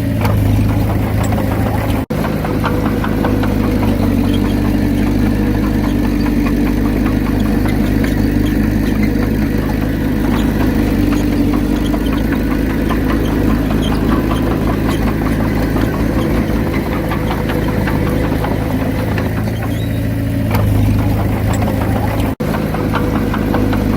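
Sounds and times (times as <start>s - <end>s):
bulldozer diesel engine running: 0.0s - 23.9s.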